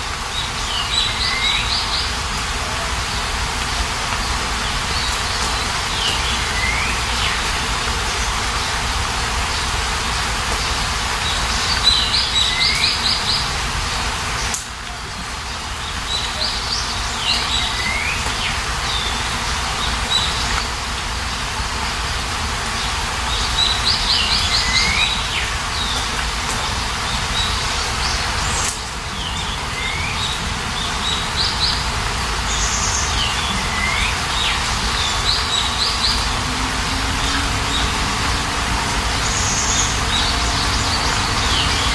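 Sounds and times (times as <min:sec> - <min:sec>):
steady rain: 0:00.0 - 0:41.9
songbird singing: 0:00.2 - 0:08.8, 0:09.4 - 0:13.6, 0:14.3 - 0:20.8, 0:22.7 - 0:41.9.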